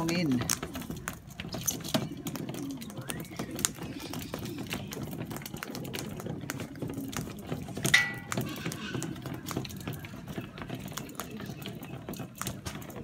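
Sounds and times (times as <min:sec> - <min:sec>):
birds pecking on metal: 0:00.0 - 0:13.0.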